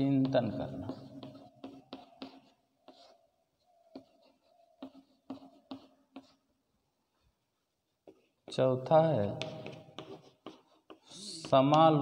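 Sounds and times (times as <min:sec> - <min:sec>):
chalk scratching on chalkboard: 0:00.0 - 0:06.5, 0:07.1 - 0:08.6, 0:09.3 - 0:12.0.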